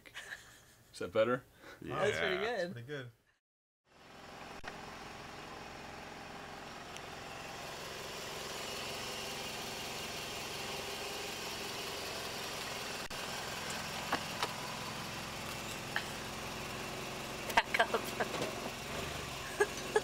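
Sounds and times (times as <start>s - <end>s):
car engine idling: 3.9s - 20.0s.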